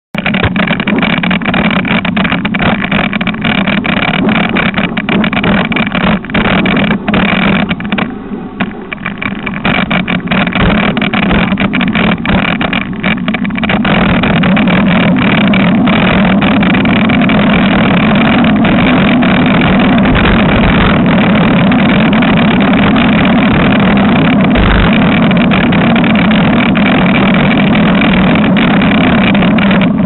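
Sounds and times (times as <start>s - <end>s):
bike rattling over rough ground: 0.2s - 30.0s
steady low hum: 0.2s - 30.0s.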